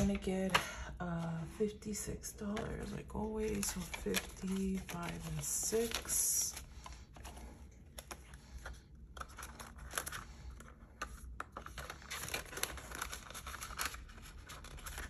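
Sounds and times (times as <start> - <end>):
paper banknotes rustling: 0.0 - 15.0.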